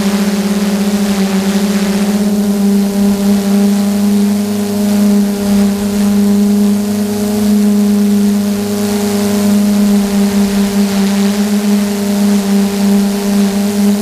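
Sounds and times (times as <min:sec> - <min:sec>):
airflow hiss: 0:00.0 - 0:14.0
drone motors humming: 0:00.0 - 0:14.0.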